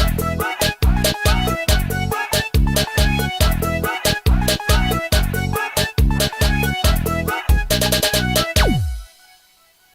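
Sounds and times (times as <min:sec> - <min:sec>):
instrumental dance music: 0:00.0 - 0:09.5.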